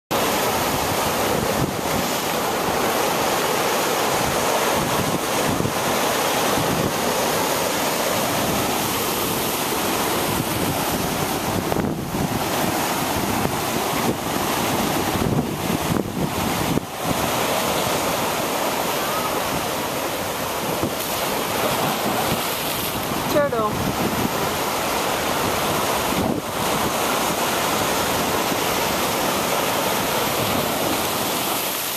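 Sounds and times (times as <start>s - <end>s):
surf breaking on rocks: 0.1s - 31.9s
wind buffeting microphone: 0.4s - 3.0s, 4.1s - 31.4s.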